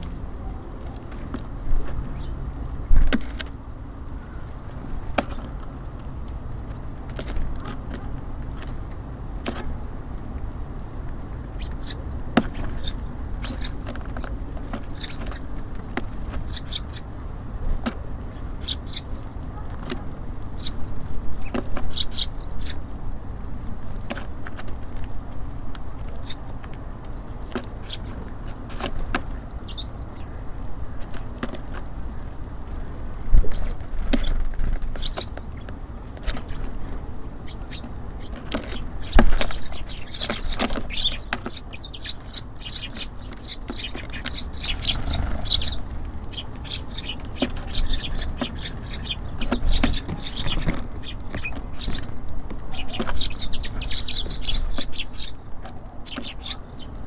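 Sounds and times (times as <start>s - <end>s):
city traffic rumble: 0.0s - 57.0s
small birds chirping: 0.0s - 57.0s.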